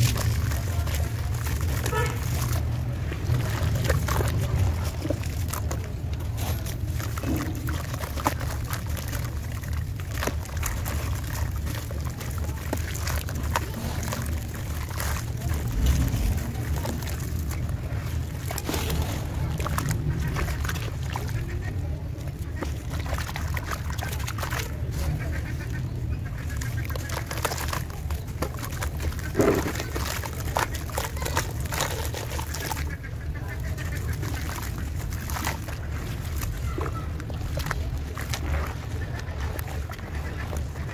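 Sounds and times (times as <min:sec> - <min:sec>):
crumbs splashing into water: 0:00.0 - 0:40.9
sharp splashes: 0:00.0 - 0:40.9
soaked chunks crackling: 0:00.0 - 0:40.9
steady low rumble: 0:00.0 - 0:40.9
water sloshing: 0:00.0 - 0:40.9
wet slabs squelching: 0:00.0 - 0:40.9.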